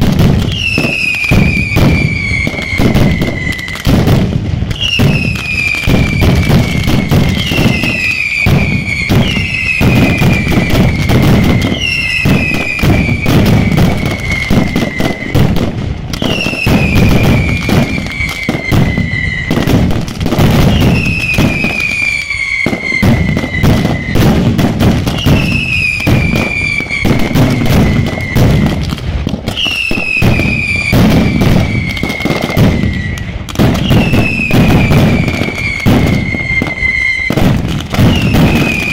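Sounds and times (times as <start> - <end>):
firecrackers banging: 0.0 - 38.9
whistling fireworks shrieking: 0.0 - 38.9.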